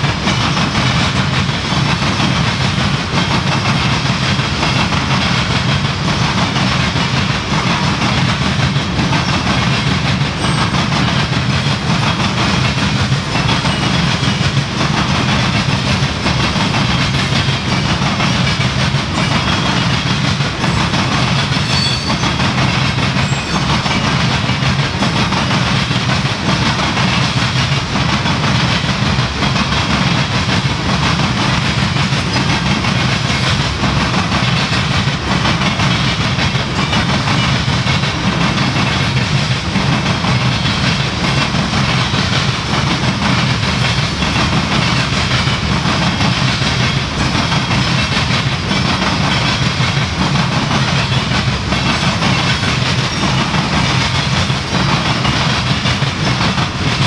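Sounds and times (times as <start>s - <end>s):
freight train rumbling past: 0.0s - 57.0s
steel wheels clattering on rails: 0.0s - 57.0s.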